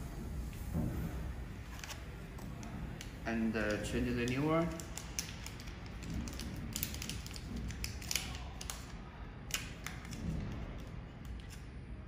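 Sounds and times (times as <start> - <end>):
paper wrapper crackling: 1.7 - 11.7.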